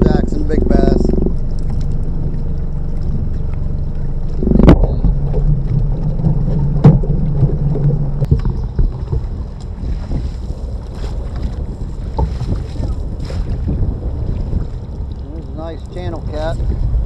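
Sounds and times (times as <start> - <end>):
boat motor and generator humming: 0.0 - 17.0.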